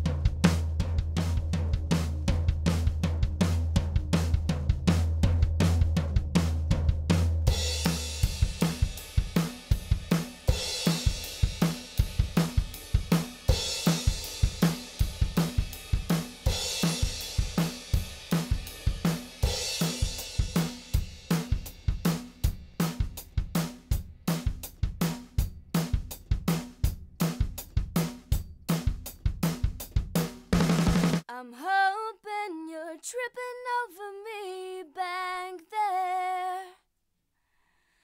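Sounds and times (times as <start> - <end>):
drum kit beat: 0.0 - 31.3.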